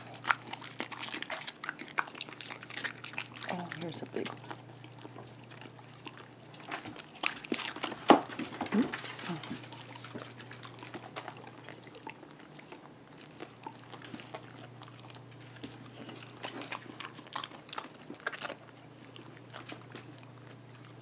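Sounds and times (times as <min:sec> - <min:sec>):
dogs chewing food: 0:00.0 - 0:21.0
low steady hum: 0:00.0 - 0:21.0.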